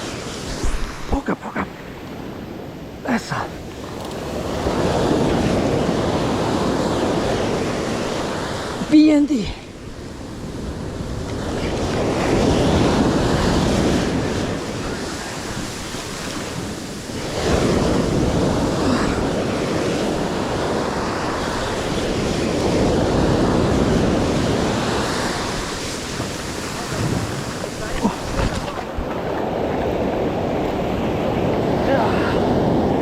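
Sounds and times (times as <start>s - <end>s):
ocean surf washing on shore: 0.0s - 33.0s
wind buffeting microphone: 3.6s - 8.9s, 9.6s - 33.0s.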